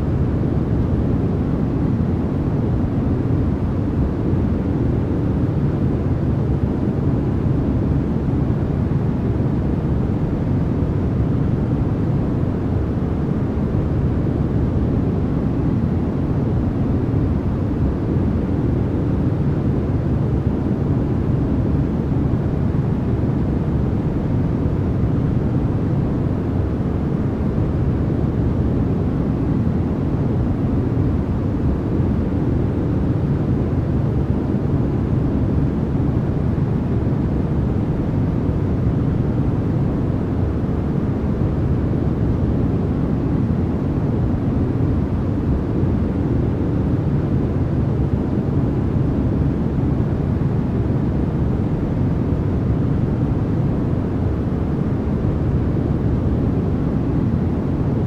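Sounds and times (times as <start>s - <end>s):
deep rumbling white noise: 0.0s - 58.0s.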